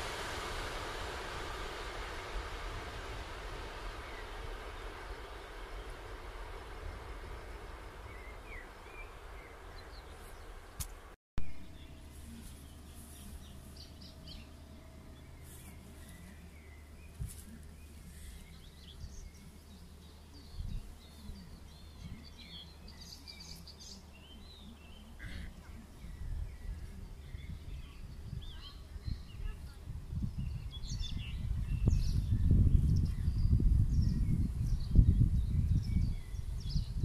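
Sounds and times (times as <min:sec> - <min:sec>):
low steady rumble: 0:00.0 - 0:37.0
songbirds chirping and singing: 0:06.8 - 0:37.0.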